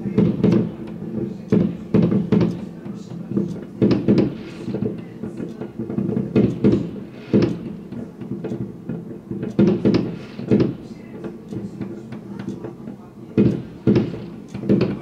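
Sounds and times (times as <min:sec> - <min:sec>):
fireworks bangs: 0:00.0 - 0:12.8, 0:13.4 - 0:15.0
small firework pops: 0:00.2 - 0:12.8, 0:13.4 - 0:15.0.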